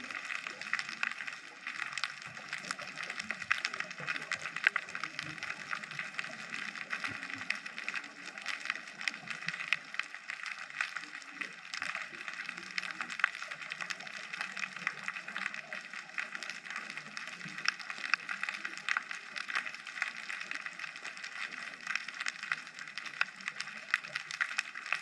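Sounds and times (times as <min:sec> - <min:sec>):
underwater crackle of clicks and pops: 0:00.0 - 0:25.0.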